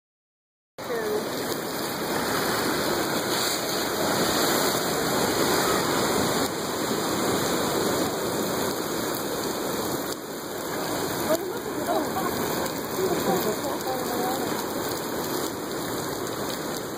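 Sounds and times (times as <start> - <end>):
ocean water washing and splashing: 0.8 - 16.9.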